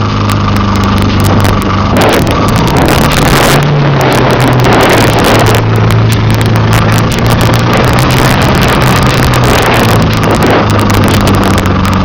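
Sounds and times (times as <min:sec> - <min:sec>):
car engine revving high: 0:00.0 - 0:12.0
wind buffeting microphone: 0:00.0 - 0:12.0.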